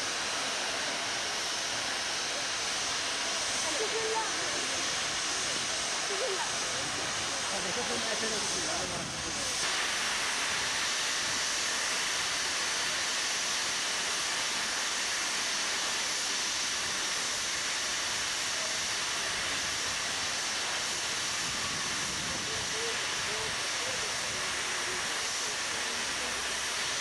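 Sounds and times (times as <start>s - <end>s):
steam hissing from locomotive: 0.0s - 27.0s.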